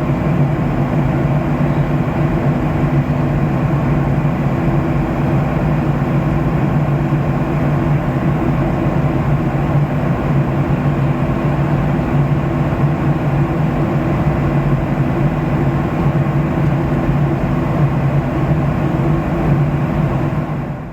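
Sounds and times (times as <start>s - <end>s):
jet engine drone: 0.0s - 20.9s.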